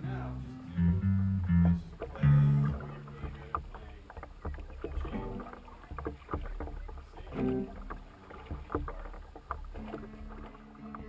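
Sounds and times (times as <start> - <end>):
oar blades splashing: 0.0 - 11.0
water moving along hull: 0.0 - 11.0
oars knocking in oarlocks: 1.5 - 11.0.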